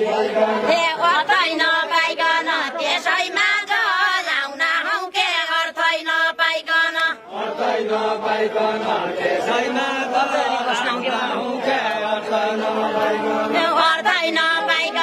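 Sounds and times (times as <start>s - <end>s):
lower voices singing: 0.0s - 15.0s
women singing: 0.0s - 15.0s.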